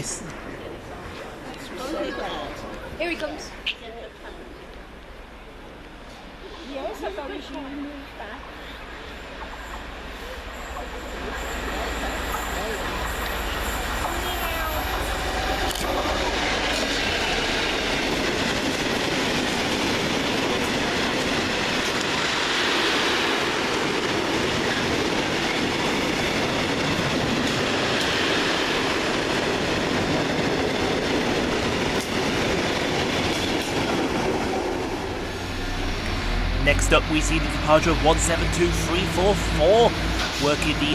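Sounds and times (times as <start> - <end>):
diesel locomotive passing: 0.0 - 40.9.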